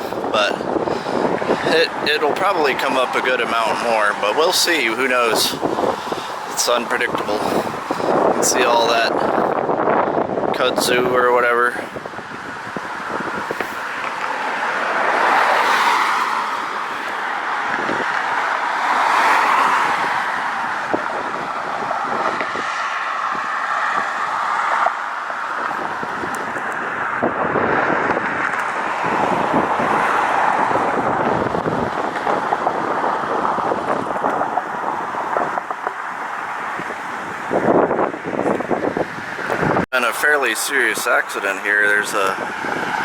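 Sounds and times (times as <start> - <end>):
cars passing by: 0.0 - 43.0.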